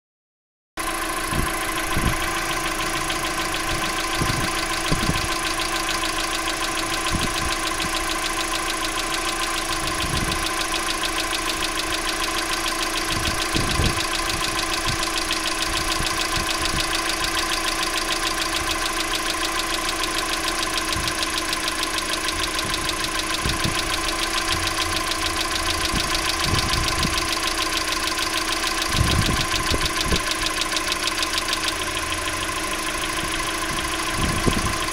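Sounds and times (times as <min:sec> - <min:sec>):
engine idling: 0:00.8 - 0:34.9
engine knocking thumps: 0:00.8 - 0:34.9.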